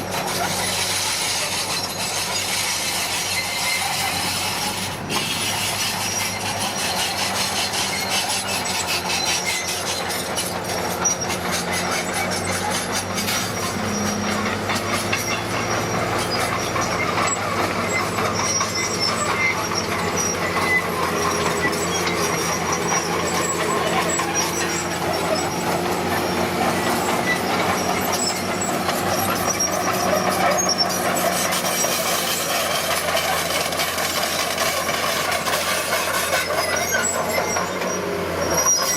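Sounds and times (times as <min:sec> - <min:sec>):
bulldozer diesel engine under load: 0:00.0 - 0:38.9
steel tracks clanking and squealing: 0:00.0 - 0:38.9.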